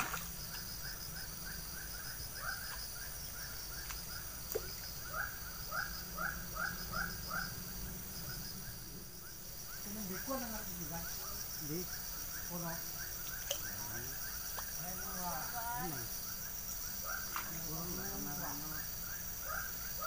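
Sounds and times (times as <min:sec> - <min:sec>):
high-pitched insect chirring: 0:00.2 - 0:20.0.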